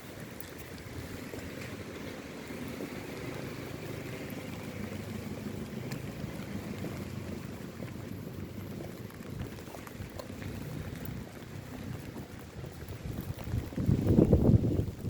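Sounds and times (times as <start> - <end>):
raindrop ticks: 0.0 - 15.0
steady rain falling: 0.0 - 15.0.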